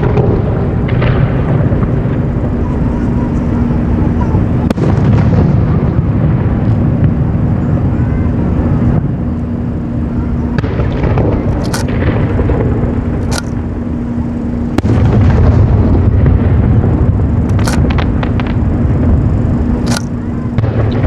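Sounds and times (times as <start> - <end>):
fireworks crackles: 0.0 - 21.0
fireworks rumbling: 0.0 - 21.0.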